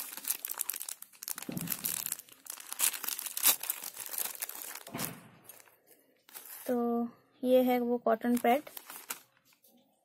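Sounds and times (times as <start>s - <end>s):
plastic packaging crinkling: 0.0s - 6.7s, 8.2s - 9.6s.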